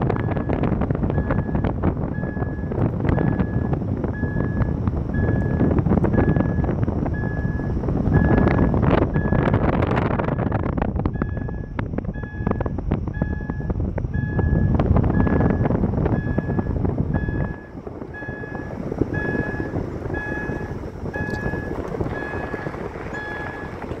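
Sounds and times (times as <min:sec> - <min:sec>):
wind and road noise: 0:00.0 - 0:24.0
car warning chime beeping: 0:00.1 - 0:09.6, 0:10.3 - 0:23.9.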